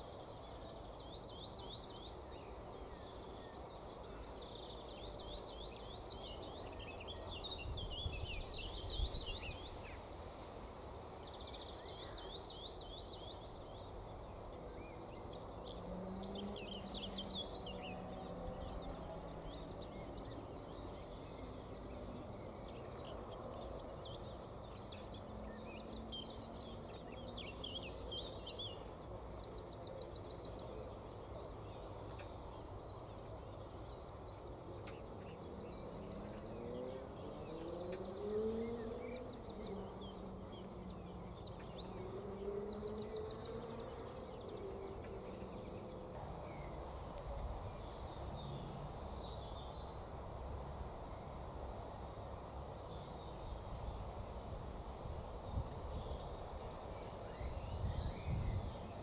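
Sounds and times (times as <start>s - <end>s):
small birds twittering: 0.0s - 59.0s.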